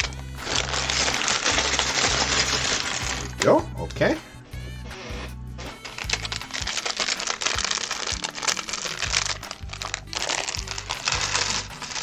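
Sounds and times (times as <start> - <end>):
plastic bag crinkling and tearing: 0.0 - 3.5, 4.9 - 12.0
plastic bricks rattling: 0.0 - 3.5, 5.6 - 12.0
background music: 0.0 - 12.0.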